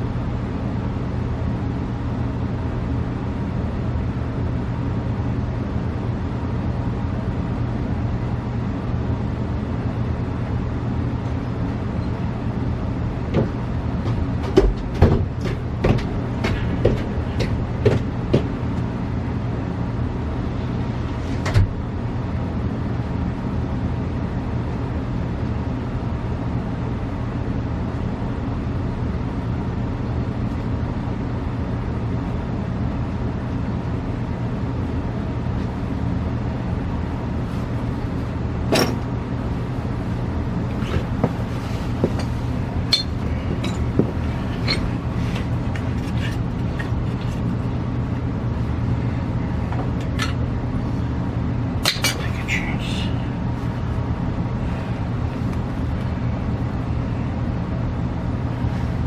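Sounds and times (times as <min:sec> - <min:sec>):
low hum with rushing noise: 0:00.0 - 0:59.0.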